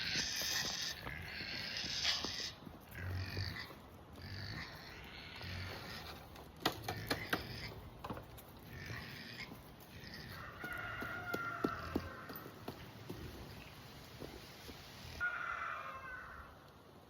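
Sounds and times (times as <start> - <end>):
chickens calling: 0.0 - 13.8.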